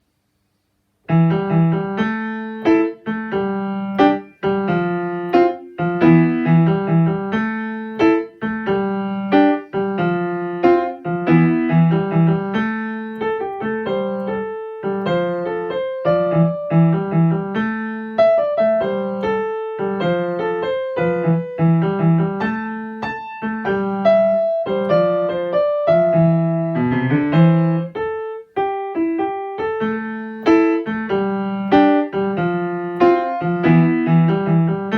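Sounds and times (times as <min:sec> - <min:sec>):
blues piano: 0:01.0 - 0:34.9.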